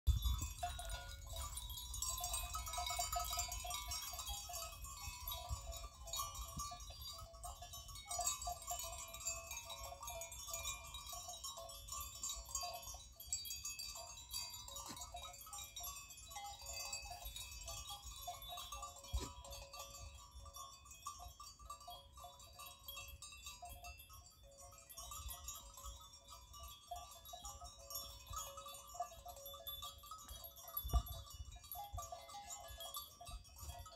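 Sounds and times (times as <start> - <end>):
goat bells tinkling: 0.1 - 33.9.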